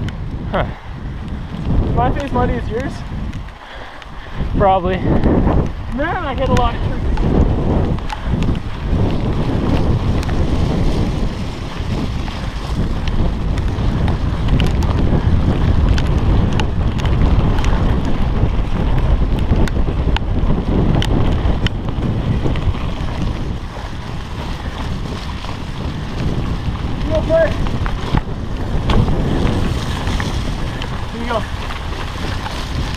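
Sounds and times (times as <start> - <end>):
bike clicks and rattles: 0.0 - 32.9
wind buffeting microphone: 0.0 - 32.9.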